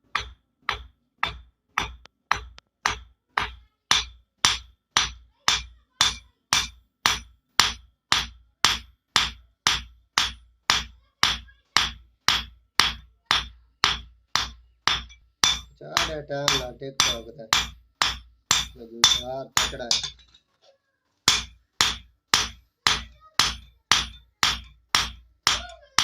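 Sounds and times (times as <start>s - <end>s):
hammer striking metal: 0.0s - 20.4s, 21.3s - 26.0s.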